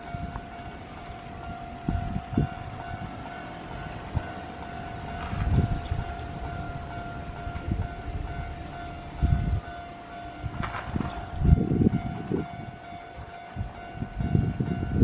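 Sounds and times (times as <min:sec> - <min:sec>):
wind gusts on microphone: 0:00.0 - 0:15.0.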